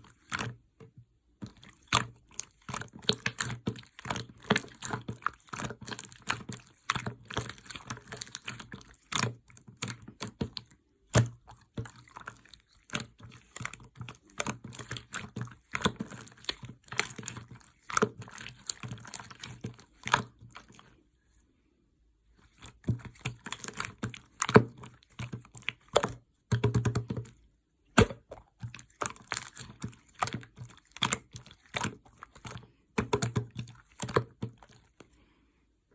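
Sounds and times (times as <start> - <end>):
slime squished by hand: 1.4 - 20.9, 22.5 - 35.1.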